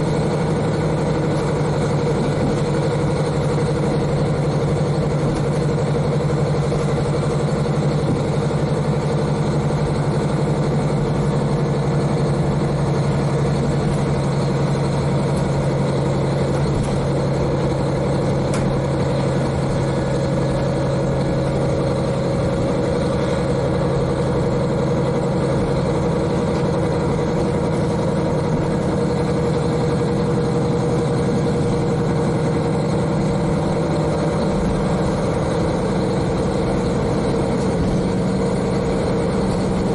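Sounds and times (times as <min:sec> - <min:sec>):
diesel engine running: 0:00.0 - 0:39.9
railcar running noise: 0:00.0 - 0:39.9.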